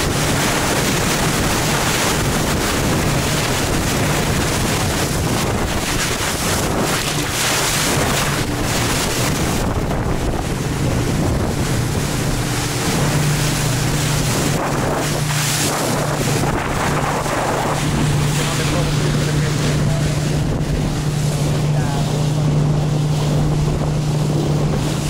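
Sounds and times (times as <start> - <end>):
motorboat engine hum: 0.0 - 25.0
spray rushing along hull: 0.0 - 25.0
wind buffeting microphone: 0.0 - 25.0.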